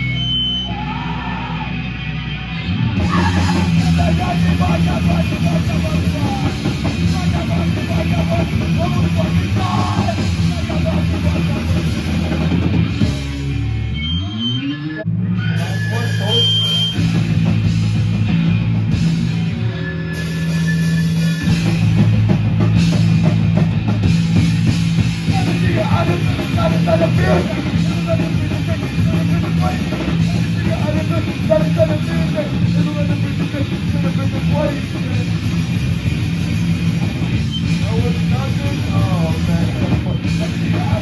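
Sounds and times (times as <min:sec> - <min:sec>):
punk band playing live: 0:00.0 - 0:14.2, 0:15.1 - 0:41.0.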